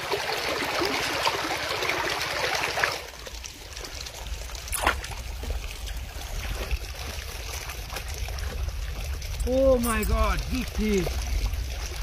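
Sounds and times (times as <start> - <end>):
river water splashing by hand: 0.0 - 12.0.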